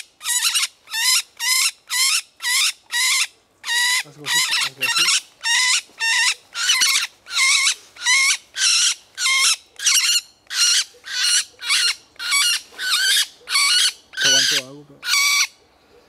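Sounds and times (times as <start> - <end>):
woodpecker harsh squawking calls: 0.0 - 15.7.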